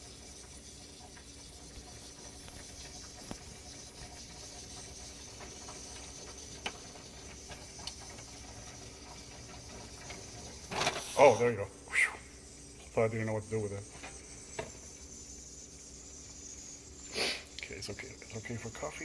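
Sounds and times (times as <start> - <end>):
espresso machine hissing: 0.0 - 19.0.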